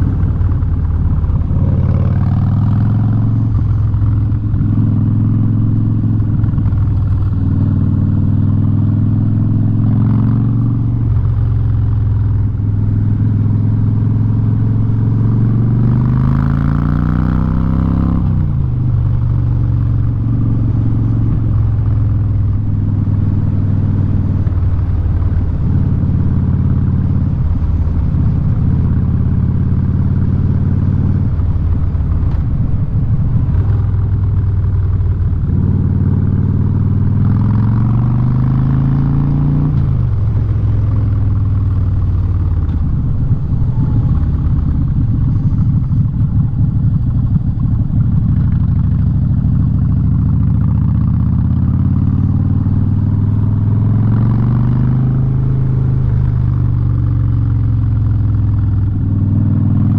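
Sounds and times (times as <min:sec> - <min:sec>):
motorcycle engine with loud exhaust: 0:00.0 - 0:59.9.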